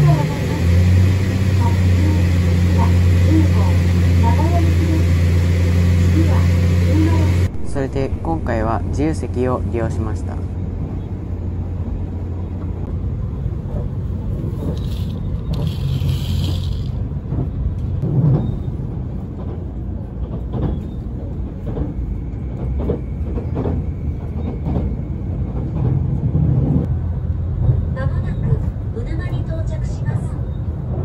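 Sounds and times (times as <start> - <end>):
train cabin low rumble: 0.0 - 31.0.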